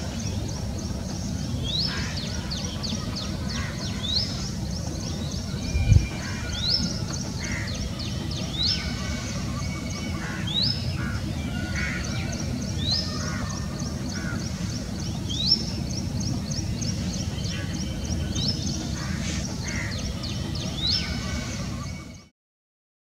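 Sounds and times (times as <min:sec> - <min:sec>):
harsh bird calls: 0:00.0 - 0:22.3.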